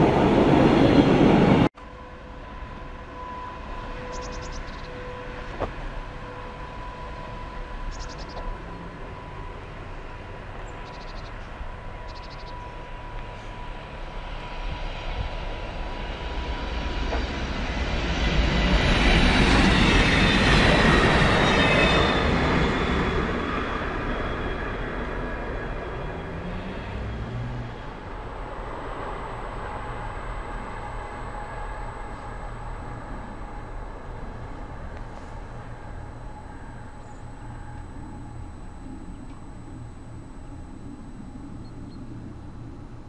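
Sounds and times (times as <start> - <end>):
locomotive whine: 0.0 - 43.0
railcar rumble and rail noise: 0.0 - 43.0.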